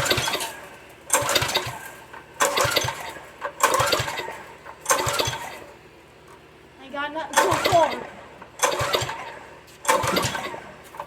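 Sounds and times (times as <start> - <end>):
engine recoil pull-start cranking: 0.0 - 5.8, 7.3 - 11.0.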